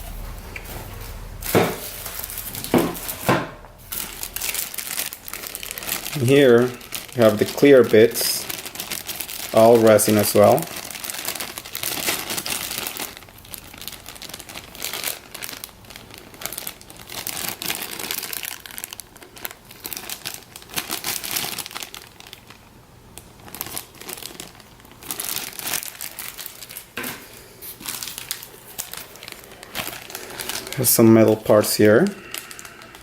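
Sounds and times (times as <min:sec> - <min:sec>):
plastic packaging crinkling: 0:00.0 - 0:33.0.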